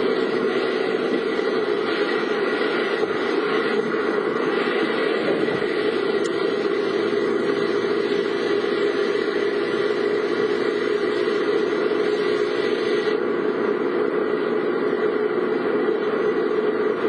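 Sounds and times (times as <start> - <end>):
car engine hum inside vehicle: 0.0 - 17.0.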